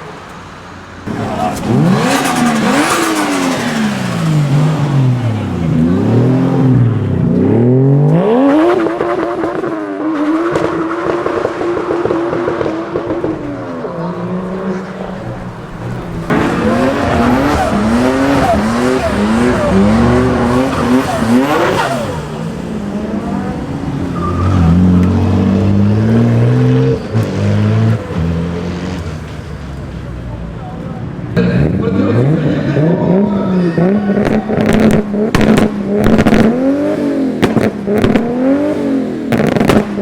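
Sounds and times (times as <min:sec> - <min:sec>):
car engine revving: 0:00.8 - 0:40.0
car accelerating through gears: 0:01.0 - 0:29.9, 0:31.3 - 0:40.0.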